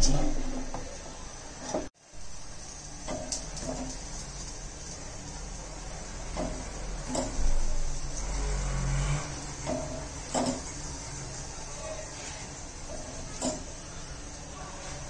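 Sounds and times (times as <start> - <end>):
gas stove burner: 0.0 - 15.0.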